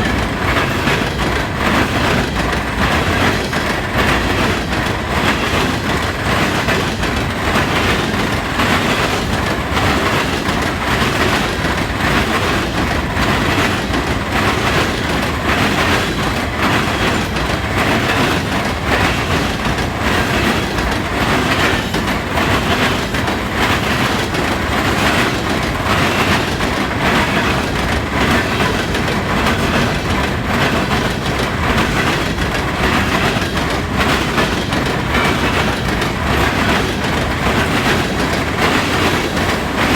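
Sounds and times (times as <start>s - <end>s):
train wheels clacking over crossings: 0.0s - 39.9s.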